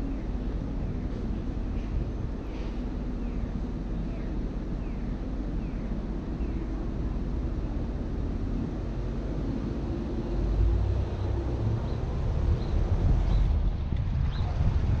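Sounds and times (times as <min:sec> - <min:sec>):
car road and wind rumble: 0:00.0 - 0:15.0.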